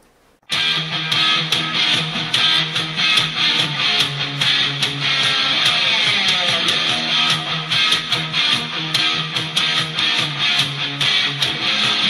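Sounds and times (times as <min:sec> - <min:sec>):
electric guitar playing: 0:00.5 - 0:12.0.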